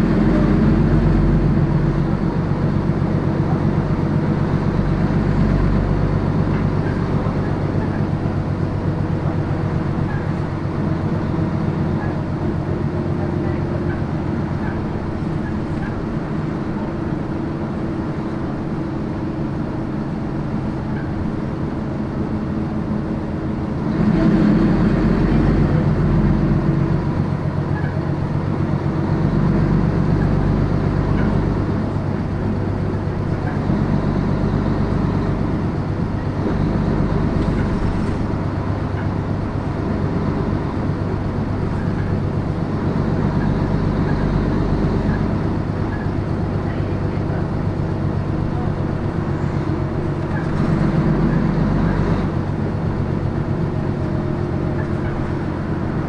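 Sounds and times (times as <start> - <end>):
bus engine running: 0.0 - 56.0
road noise: 0.0 - 56.0.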